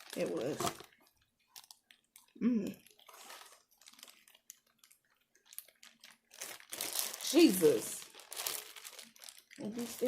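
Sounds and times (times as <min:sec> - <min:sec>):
eating clicks and rustles: 0:00.0 - 0:10.0.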